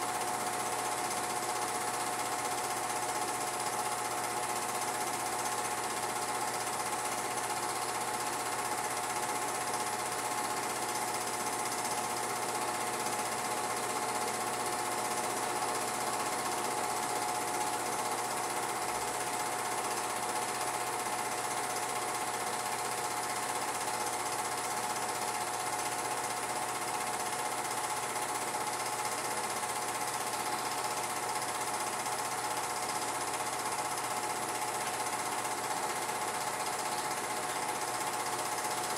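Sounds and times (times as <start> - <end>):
film projector clattering: 0.0 - 38.9
projector hum: 0.0 - 38.9.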